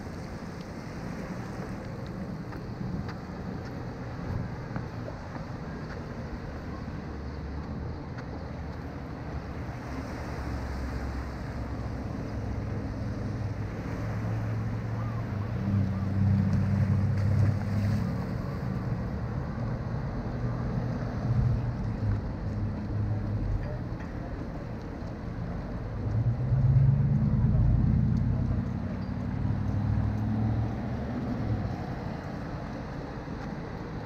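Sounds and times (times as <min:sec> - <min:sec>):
car traffic rumble: 0:00.0 - 0:34.0.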